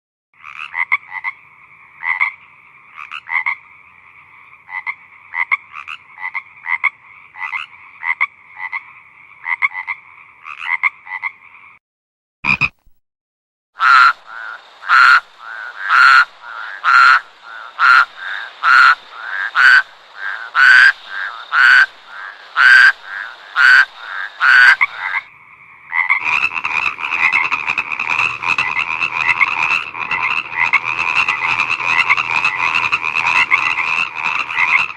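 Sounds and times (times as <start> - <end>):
frogs croaking: 0.4 - 11.8, 13.8 - 34.9.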